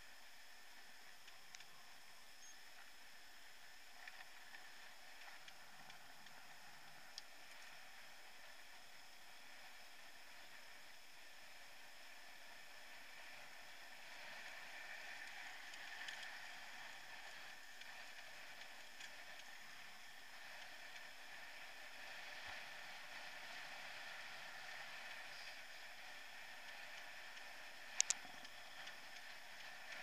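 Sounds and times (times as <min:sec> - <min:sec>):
light ticks: 0:00.8 - 0:11.2, 0:13.4 - 0:30.0
bike tyres rolling on boards: 0:02.6 - 0:30.0.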